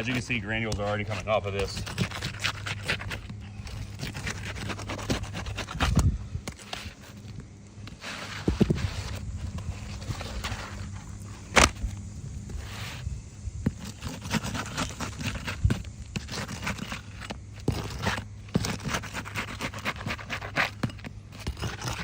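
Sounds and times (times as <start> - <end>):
shingle scraping and crackling: 0.0 - 22.0.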